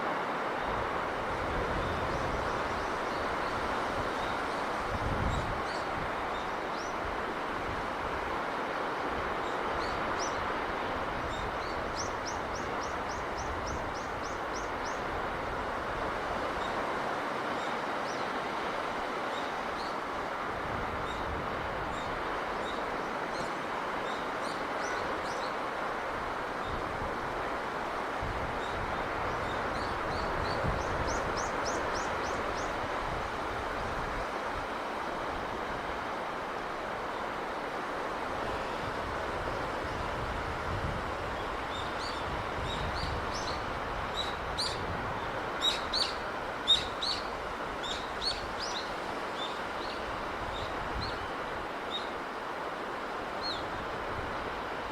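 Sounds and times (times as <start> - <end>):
sea breeze and surf: 0.0 - 54.9.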